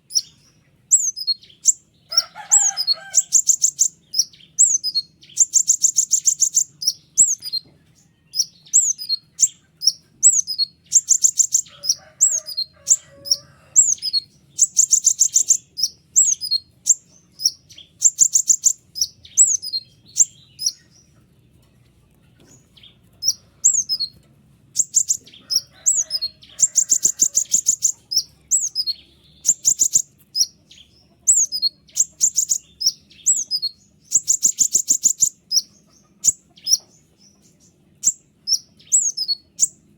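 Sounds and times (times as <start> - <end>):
buzzy bird trills: 0.0 - 7.6, 8.3 - 21.0, 23.2 - 39.8
songbird chirping: 0.0 - 39.9.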